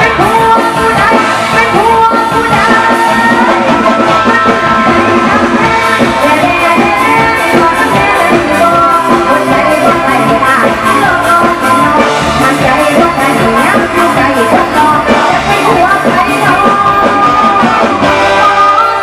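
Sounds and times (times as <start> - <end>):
live band music: 0.0 - 19.0
steady drum beat: 0.0 - 19.0.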